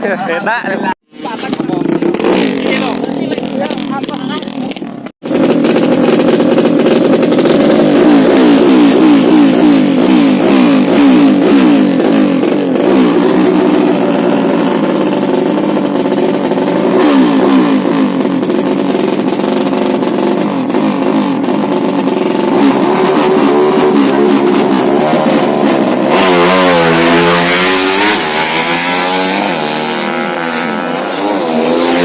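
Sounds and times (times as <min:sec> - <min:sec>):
motorcycle engine revving: 0:01.1 - 0:32.0.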